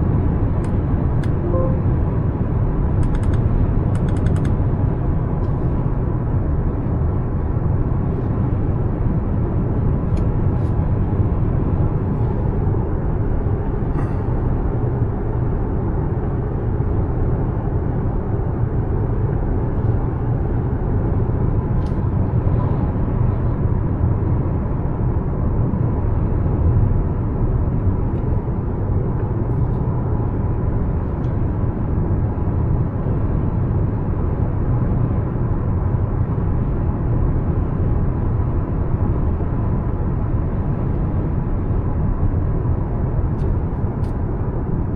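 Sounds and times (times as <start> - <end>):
road and tyre noise: 0.0 - 44.9.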